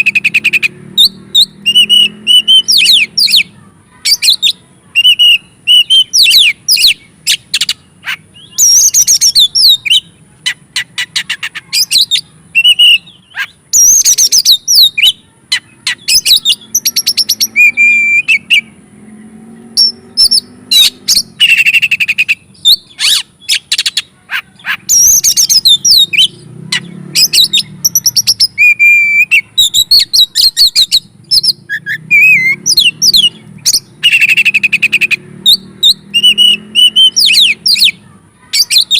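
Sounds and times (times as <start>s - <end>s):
bird singing whistled phrases: 0.0s - 3.5s, 4.1s - 18.7s, 19.8s - 38.0s.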